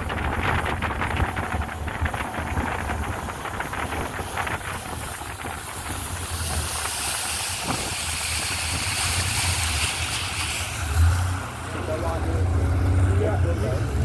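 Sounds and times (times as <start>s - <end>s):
wind and water rushing: 0.0s - 13.2s
motorboat engine running: 0.0s - 14.0s.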